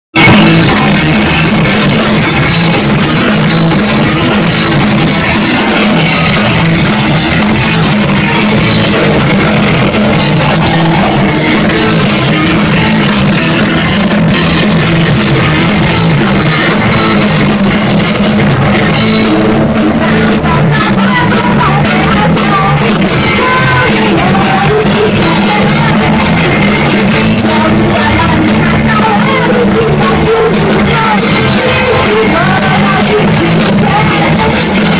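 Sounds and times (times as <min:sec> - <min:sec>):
bass guitar: 0:00.1 - 0:34.9
drum kit: 0:00.1 - 0:34.9
electric guitar: 0:00.1 - 0:34.9.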